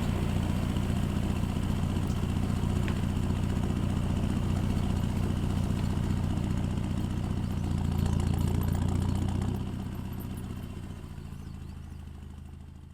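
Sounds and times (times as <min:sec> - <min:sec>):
diesel engine exhaust: 0:00.0 - 0:12.9.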